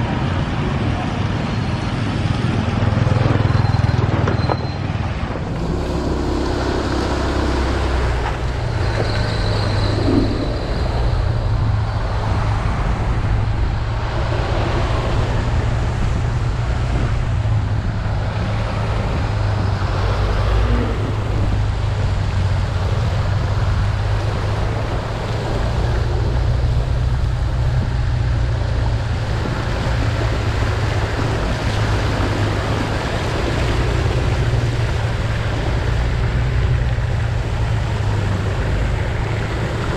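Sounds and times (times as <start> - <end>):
scooter engine and wind rumble: 0.0 - 39.9.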